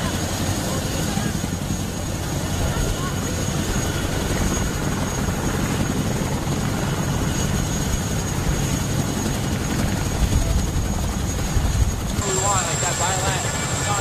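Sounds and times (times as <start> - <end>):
helicopter rotors beating: 0.0 - 14.0
high turbine whine: 0.0 - 14.0.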